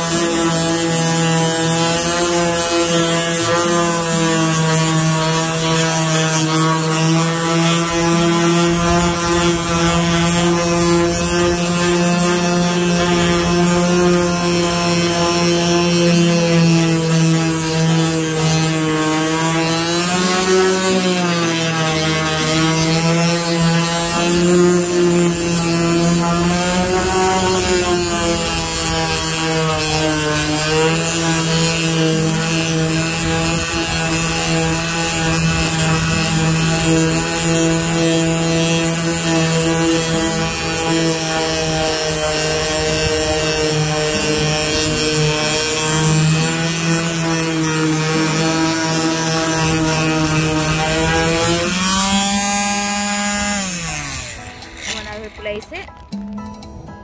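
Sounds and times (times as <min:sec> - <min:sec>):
power sander on fiberglass: 0:00.0 - 0:56.3.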